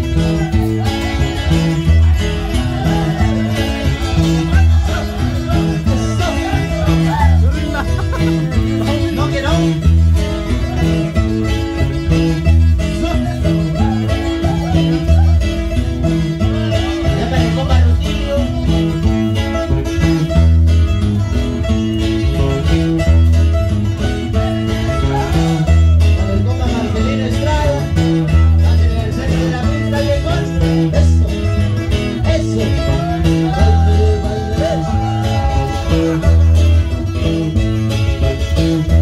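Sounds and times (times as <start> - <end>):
guitars plucked and strummed: 0.0 - 39.0
repeating bass line: 0.0 - 39.0.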